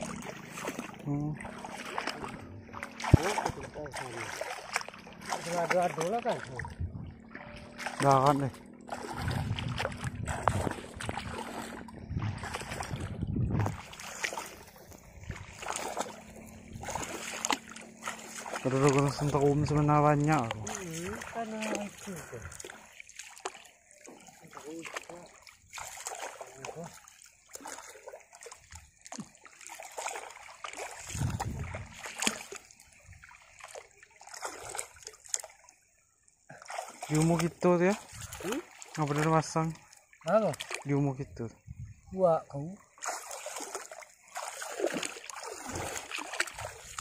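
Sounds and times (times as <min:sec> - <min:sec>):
person wading through water: 0:00.0 - 0:47.0.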